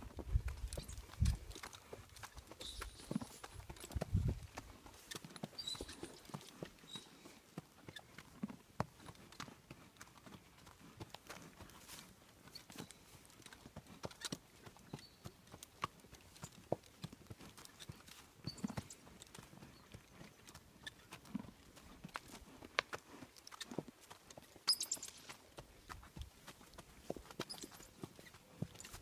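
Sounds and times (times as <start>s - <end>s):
pony hooves on hard dirt: 0.0s - 29.0s.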